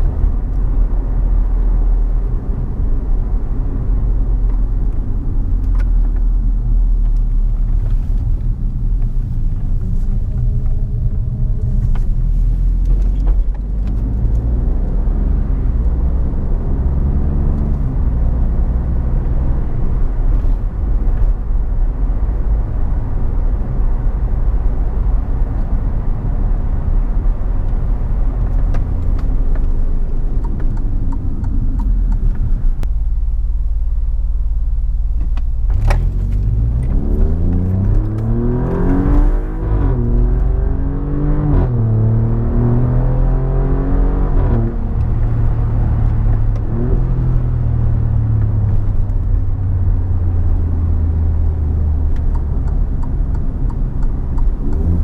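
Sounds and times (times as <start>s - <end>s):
car engine drone from inside cabin: 0.0s - 55.0s
road noise: 0.0s - 55.0s.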